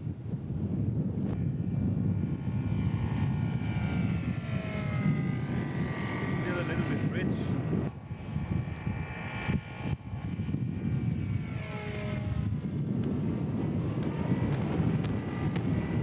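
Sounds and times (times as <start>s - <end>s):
model radial engine running: 2.2s - 16.0s.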